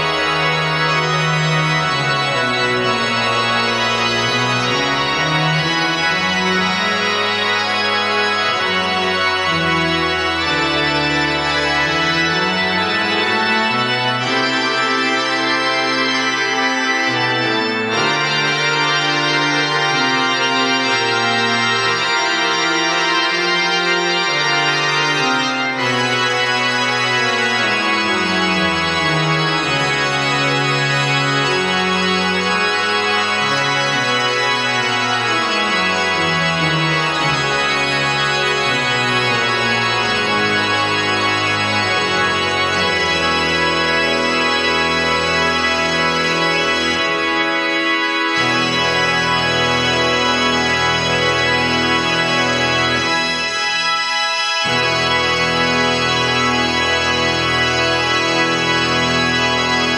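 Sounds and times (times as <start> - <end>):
organ playing full chords: 0.0 - 59.9.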